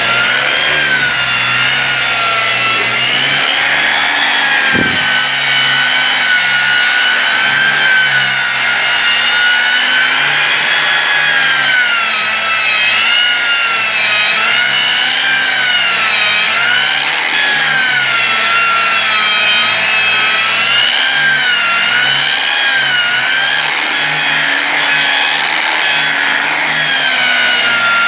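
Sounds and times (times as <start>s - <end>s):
angle grinder sanding wood: 0.0s - 28.0s.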